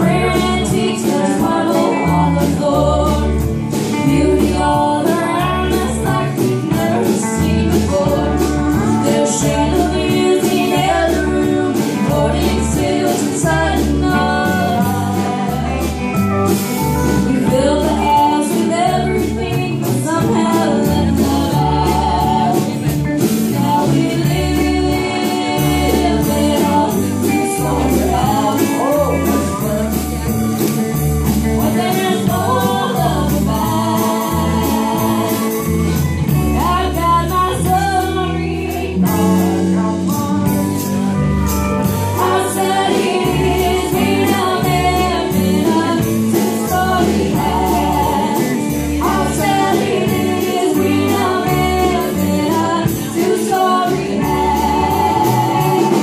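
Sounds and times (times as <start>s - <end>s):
person singing: 0.0s - 16.0s, 17.2s - 30.6s, 31.6s - 41.0s, 42.1s - 56.0s
drums: 0.0s - 56.0s
electric guitars: 0.0s - 56.0s
pedal steel guitar: 0.0s - 56.0s.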